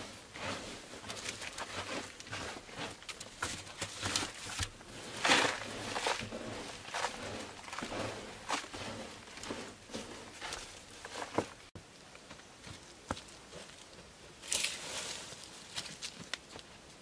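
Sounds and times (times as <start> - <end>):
footsteps on dirt: 0.0 - 13.8
hands scooping dry soil: 0.0 - 17.0.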